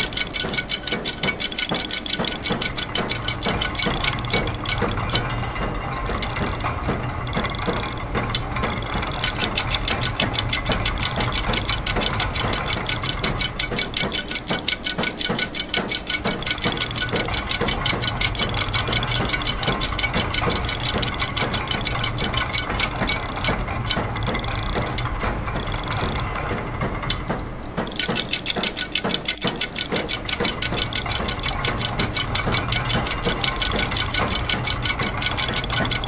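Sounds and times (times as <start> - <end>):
low mechanical hum: 0.0 - 36.0
ratchet and gear clicking: 0.0 - 36.0.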